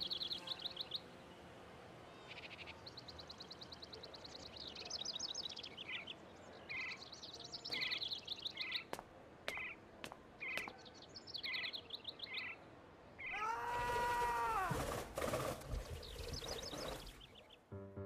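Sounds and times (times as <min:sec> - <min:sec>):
songbird chirping and trilling: 0:00.0 - 0:01.3, 0:02.1 - 0:13.6, 0:15.6 - 0:17.8.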